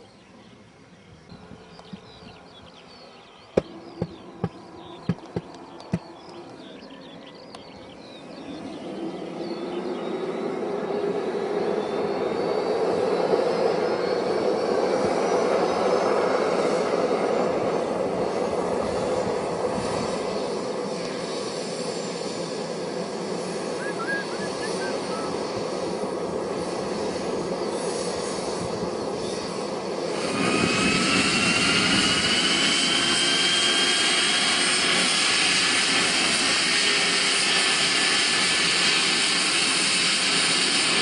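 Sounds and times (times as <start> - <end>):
model jet turbine whine: 0.0 - 41.0.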